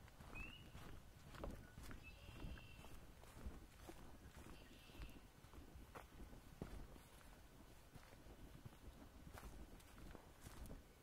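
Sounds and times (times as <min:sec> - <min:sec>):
footsteps crunching on leaves: 0:00.0 - 0:11.0.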